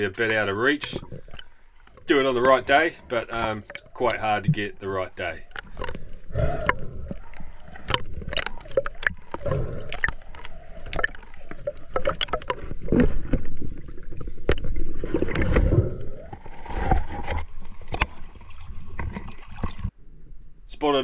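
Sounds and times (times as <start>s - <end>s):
water gurgling: 0.0s - 19.9s.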